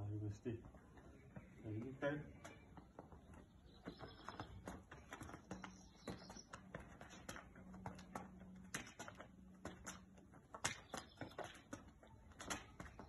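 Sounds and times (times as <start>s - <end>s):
sneaker soles tapping on asphalt: 0.0s - 13.0s.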